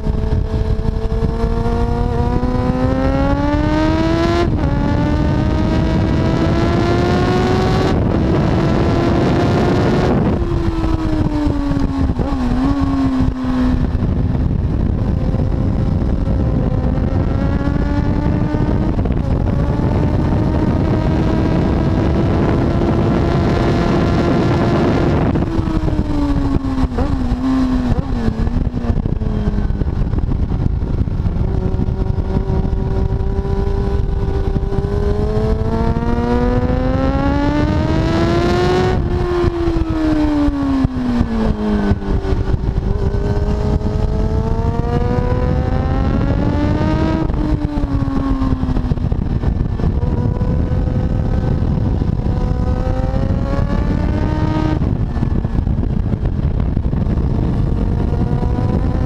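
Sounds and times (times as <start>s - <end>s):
motorcycle engine at speed: 0.0s - 59.0s
wind rush: 0.0s - 59.0s.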